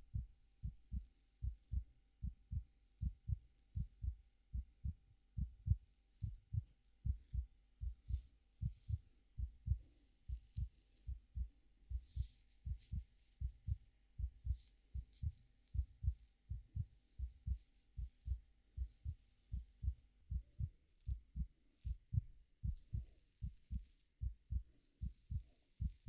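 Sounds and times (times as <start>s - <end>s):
heartbeat double thump: 0.1s - 26.0s.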